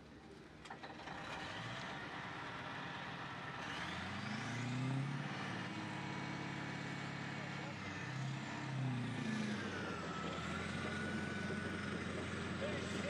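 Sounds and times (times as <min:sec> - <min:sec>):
bulldozer diesel engine revving: 0:00.7 - 0:13.0.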